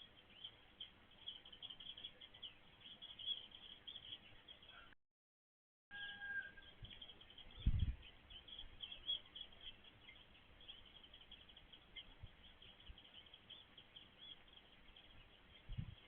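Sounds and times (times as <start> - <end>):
small birds chirping: 0.0 - 5.0, 6.0 - 16.0.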